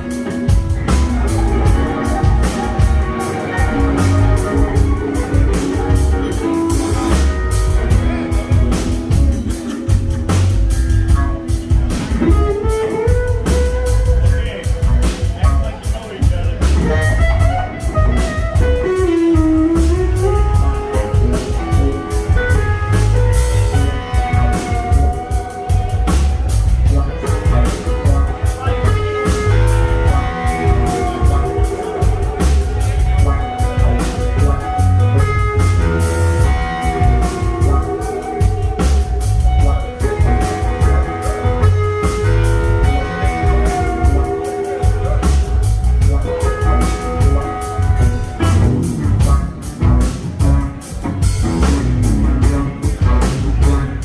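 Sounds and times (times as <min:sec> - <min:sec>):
bass guitar: 0:00.0 - 0:54.0
blues guitar: 0:00.0 - 0:54.0
drum kit beat: 0:00.0 - 0:54.0.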